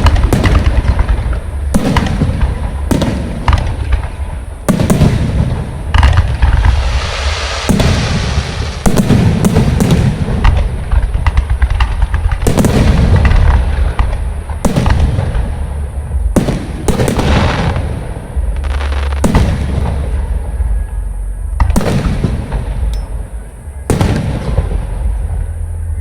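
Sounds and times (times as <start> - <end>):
fireworks bangs: 0.0 - 25.9.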